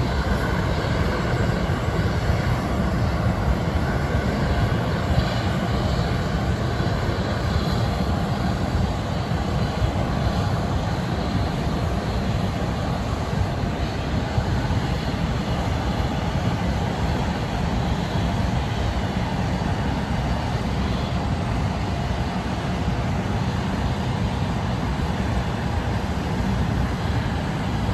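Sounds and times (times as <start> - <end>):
jet engines idling: 0.0 - 27.9.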